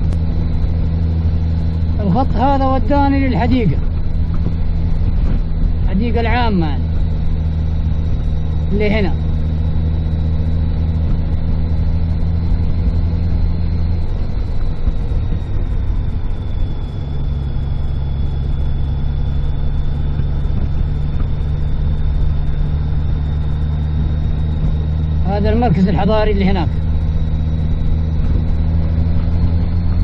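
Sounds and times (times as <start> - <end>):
car engine hum: 0.0 - 30.0
road noise: 0.0 - 30.0.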